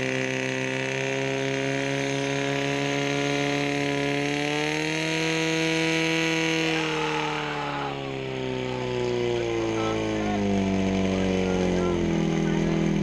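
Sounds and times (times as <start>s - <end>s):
pump engine running hard: 0.0s - 13.0s.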